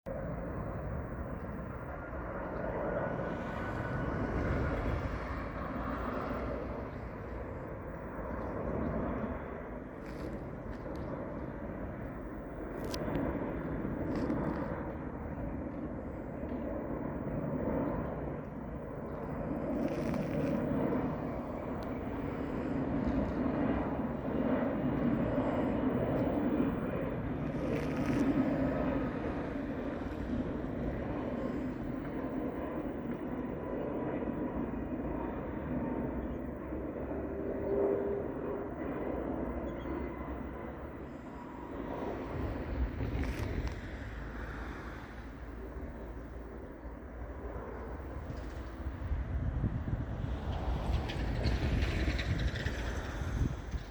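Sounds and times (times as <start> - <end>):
jet engine rumble: 0.1 - 53.9.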